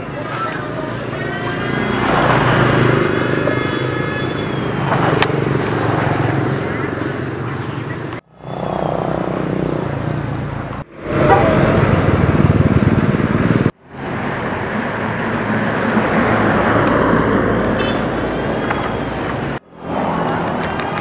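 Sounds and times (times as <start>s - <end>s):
bus passing: 0.0s - 21.0s
motorcycle passing: 0.0s - 21.0s
truck passing: 0.0s - 21.0s.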